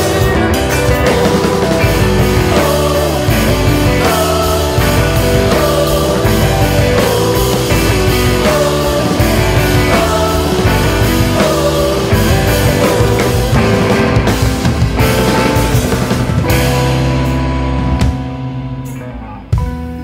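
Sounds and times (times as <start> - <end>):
rock band playing instrumental: 0.0 - 20.0.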